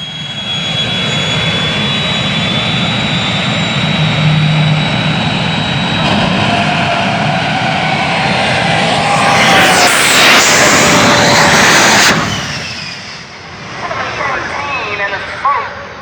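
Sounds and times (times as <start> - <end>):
drag-racing engine whine and roar: 0.0 - 16.0.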